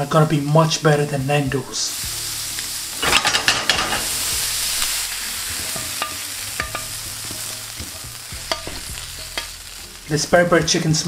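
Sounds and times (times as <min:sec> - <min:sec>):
chicken sizzling on griddle: 0:01.7 - 0:11.0.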